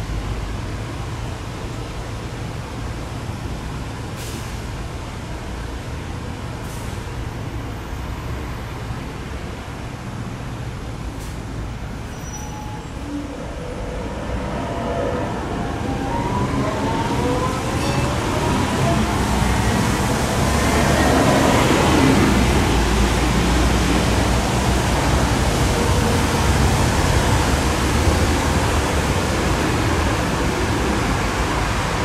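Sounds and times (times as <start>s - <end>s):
city traffic rumble: 0.0s - 32.0s.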